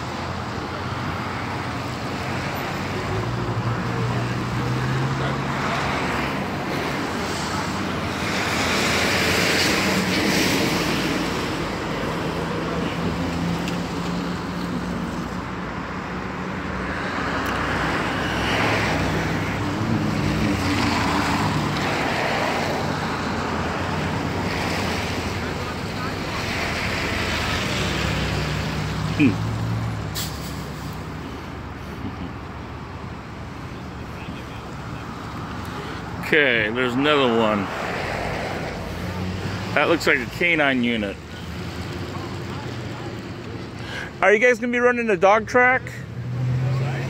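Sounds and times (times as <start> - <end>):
road traffic passing: 0.0 - 47.0.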